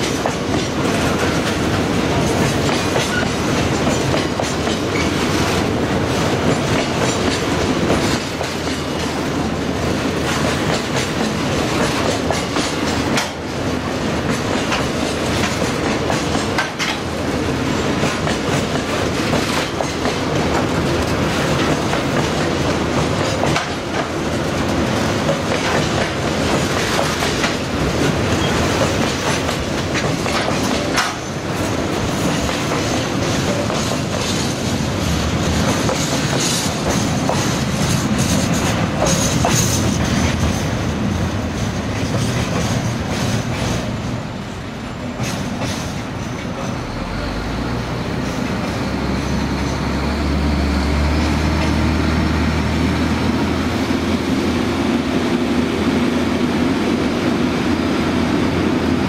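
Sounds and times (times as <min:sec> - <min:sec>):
clickety-clack over rail joints: 0:00.0 - 0:57.5
train wheels on rails: 0:00.0 - 0:59.0.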